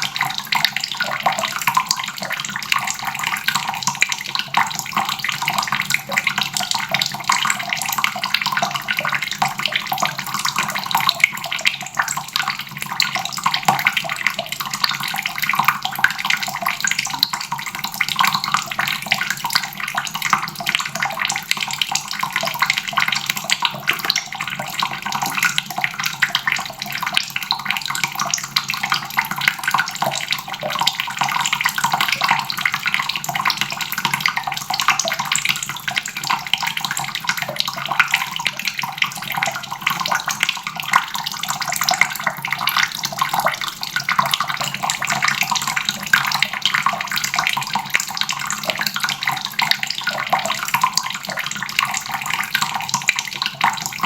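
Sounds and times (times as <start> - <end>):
faucet water running and splashing: 0.0 - 54.0.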